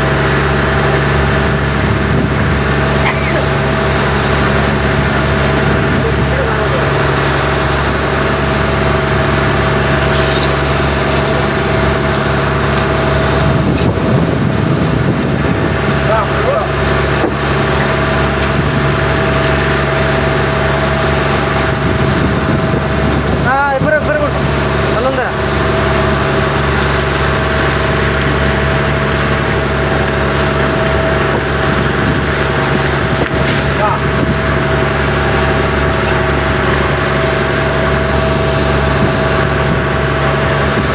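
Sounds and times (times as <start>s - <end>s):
engine running steadily: 0.0s - 40.9s
low wavering sounds: 0.0s - 40.9s.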